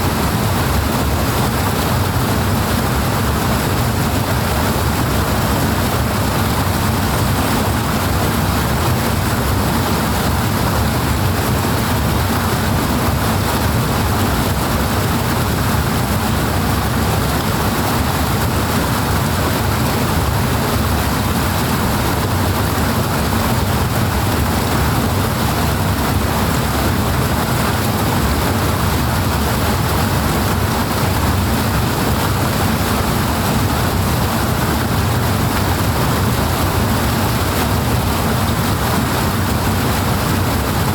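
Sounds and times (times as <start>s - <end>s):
rushing canal water: 0.0s - 40.9s.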